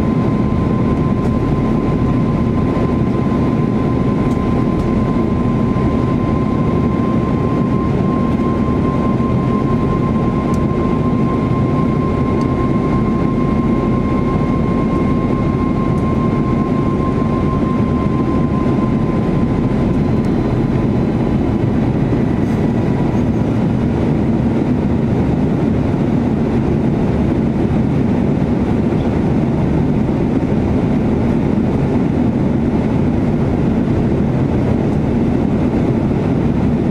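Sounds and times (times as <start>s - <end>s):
jet engines roaring: 0.0s - 36.9s
thin steady whine: 0.0s - 36.9s.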